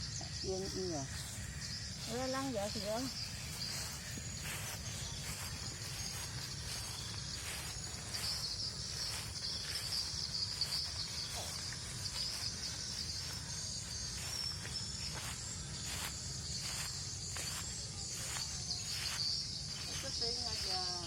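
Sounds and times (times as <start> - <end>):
insect chorus chirring: 0.0 - 21.0.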